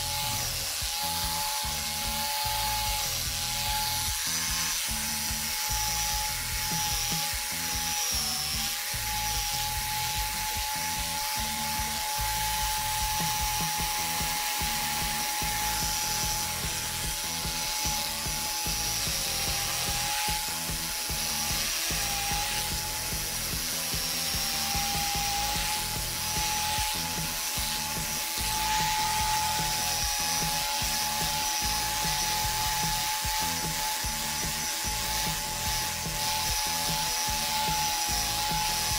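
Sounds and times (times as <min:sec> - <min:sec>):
background music: 0:00.0 - 0:38.9
electric clipper whining: 0:00.0 - 0:38.9.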